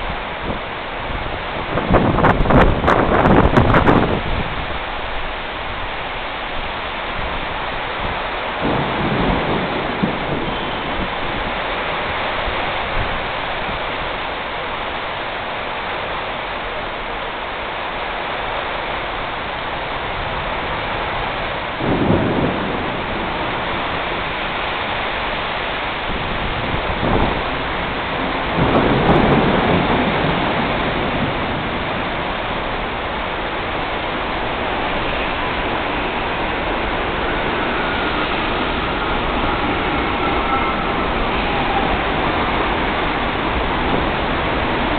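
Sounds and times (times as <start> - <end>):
low thunder rumbles: 0.0 - 14.9, 19.6 - 44.9
heavy rain hissing: 0.0 - 44.9.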